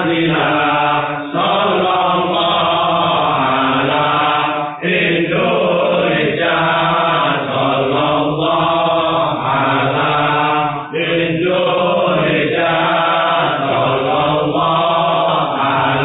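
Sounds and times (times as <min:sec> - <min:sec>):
voices chanting in unison: 0:00.0 - 0:16.0.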